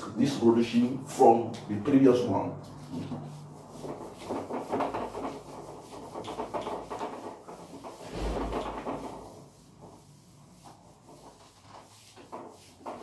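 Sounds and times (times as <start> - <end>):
eraser scrubbing whiteboard: 2.1 - 13.0.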